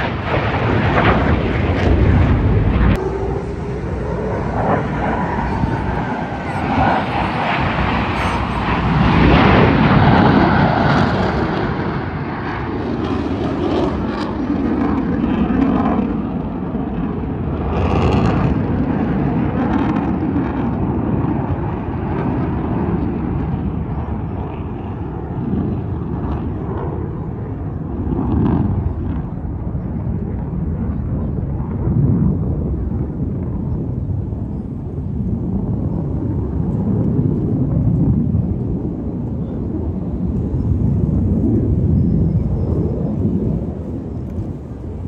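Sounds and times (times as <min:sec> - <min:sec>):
jet engines rumbling overhead: 0:00.0 - 0:45.0.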